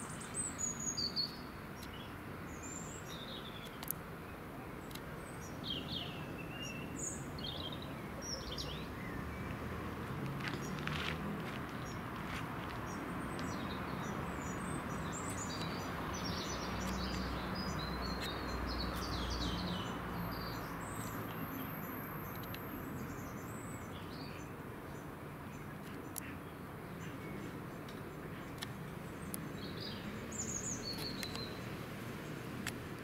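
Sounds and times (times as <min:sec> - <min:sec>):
outdoor background noise: 0:00.0 - 0:33.0
small songbirds chirping: 0:00.0 - 0:33.0.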